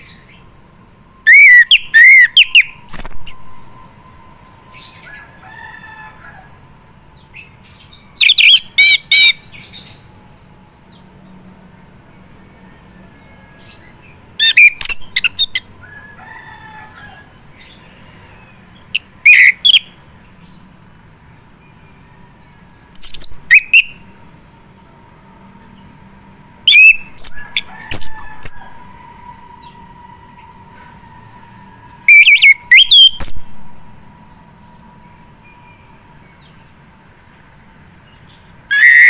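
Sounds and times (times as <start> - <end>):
thrush singing chirping phrases: 0.0 - 5.4, 6.1 - 10.2, 11.9 - 16.1, 16.9 - 20.8, 21.6 - 36.9, 37.9 - 39.0.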